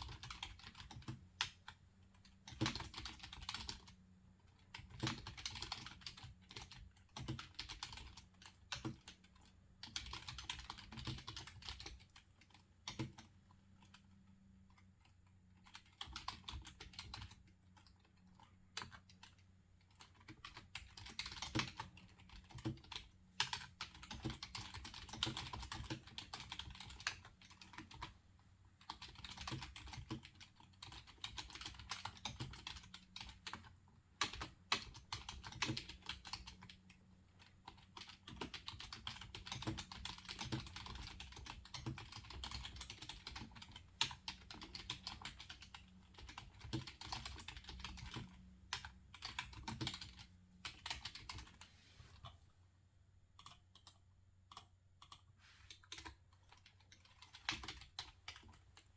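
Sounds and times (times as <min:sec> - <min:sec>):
computer keyboard typing: 0:00.0 - 0:28.2, 0:28.8 - 0:52.4, 0:53.4 - 0:58.9.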